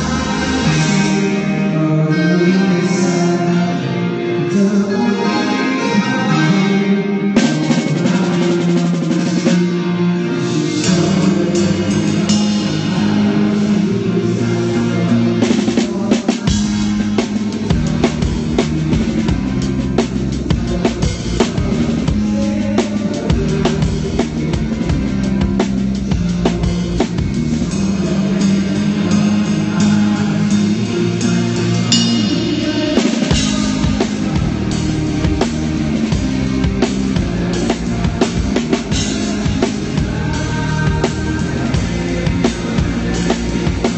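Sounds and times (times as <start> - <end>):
bass and guitar: 0.0 - 43.9
pop-rock band playing: 0.0 - 43.9
drum kit beat: 7.4 - 9.8, 10.7 - 43.9.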